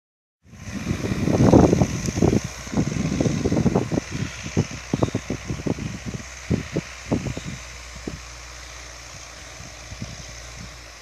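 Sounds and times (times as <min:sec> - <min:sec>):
diesel tractor engine hum: 0:00.4 - 0:11.0
low rumbles and thumps: 0:00.6 - 0:08.4, 0:09.1 - 0:10.8.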